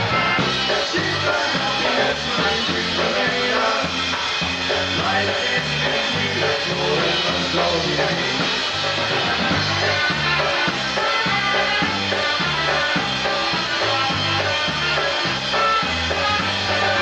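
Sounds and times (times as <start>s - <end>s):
polka band playing: 0.0s - 17.0s.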